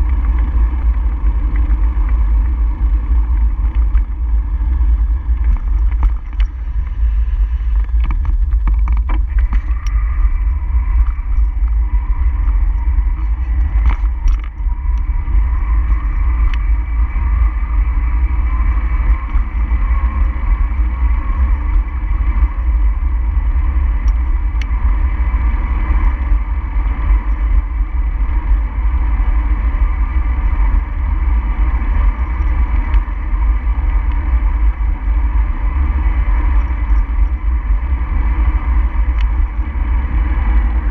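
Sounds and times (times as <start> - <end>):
road noise: 0.0 - 40.9
wind rumble on microphone: 0.0 - 40.9.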